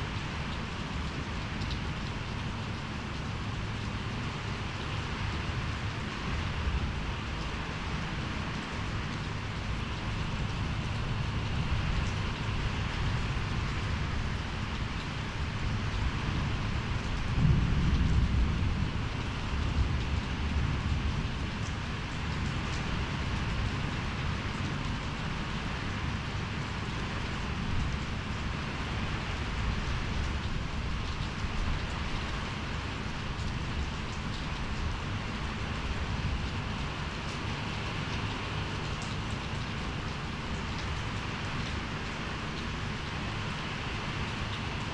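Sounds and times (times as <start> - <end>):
rain pouring: 0.0 - 44.9.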